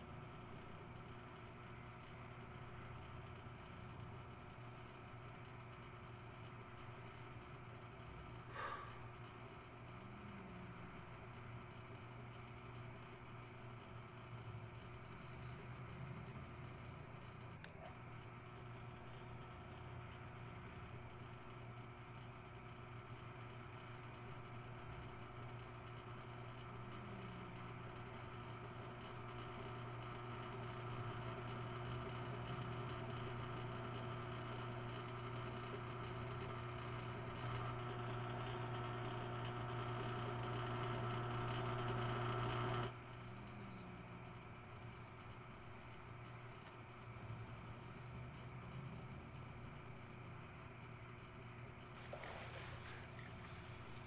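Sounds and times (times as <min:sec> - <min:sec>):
droning hum of held tones: 0:00.0 - 0:54.0.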